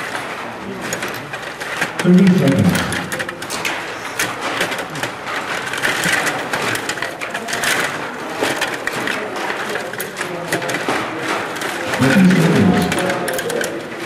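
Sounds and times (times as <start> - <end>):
table hockey clattering clicks: 0.0 - 14.0.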